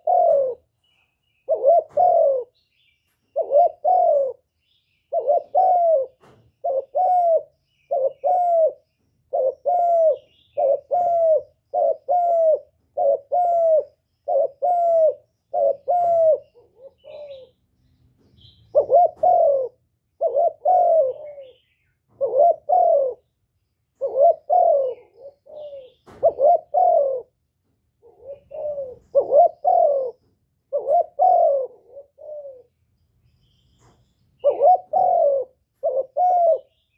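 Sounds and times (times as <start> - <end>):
dove cooing: 0.0 - 2.6, 3.3 - 4.5, 5.1 - 17.7, 18.7 - 23.3, 24.0 - 27.4, 28.0 - 32.7, 34.4 - 36.9.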